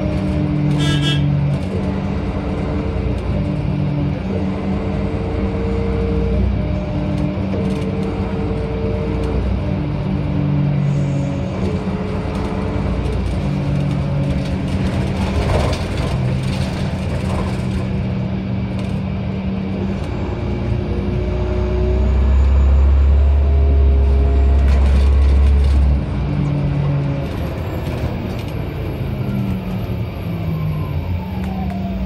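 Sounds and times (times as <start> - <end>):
bus engine humming: 0.0 - 32.0
deep low rumble: 1.6 - 32.0.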